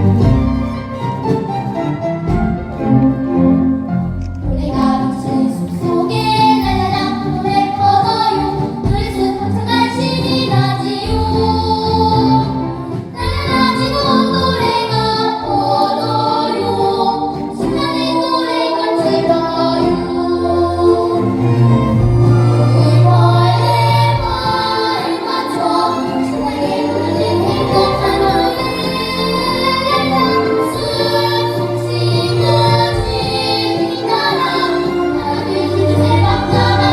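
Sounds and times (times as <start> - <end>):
children singing together: 4.2 - 36.9.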